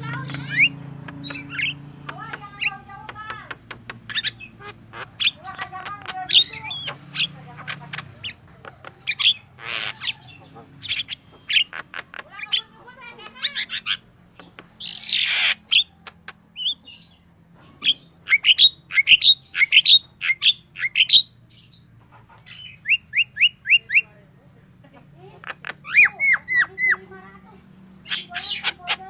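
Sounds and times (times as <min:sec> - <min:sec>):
bird chirping: 0:00.0 - 0:24.2, 0:25.2 - 0:29.0.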